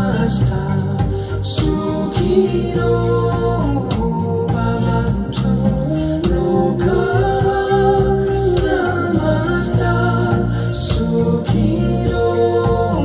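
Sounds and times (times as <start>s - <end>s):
song over loudspeakers: 0.0s - 13.0s.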